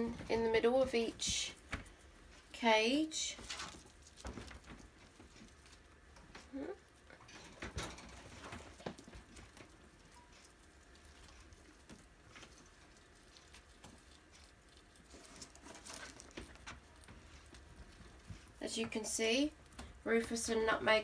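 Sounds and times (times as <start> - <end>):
guinea pig crunching food: 0.3 - 21.0.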